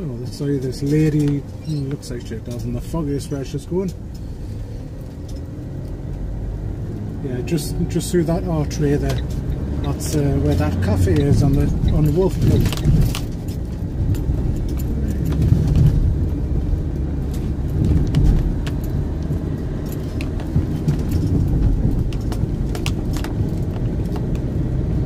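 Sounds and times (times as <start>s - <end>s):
light clicks and rattles: 0.0s - 24.6s
van engine and tyre rumble: 0.0s - 25.0s.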